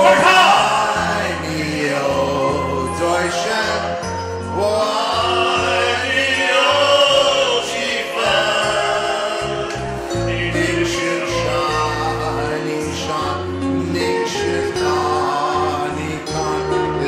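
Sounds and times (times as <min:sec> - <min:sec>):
backing music: 0:00.0 - 0:17.0
people singing into microphones: 0:00.0 - 0:17.0.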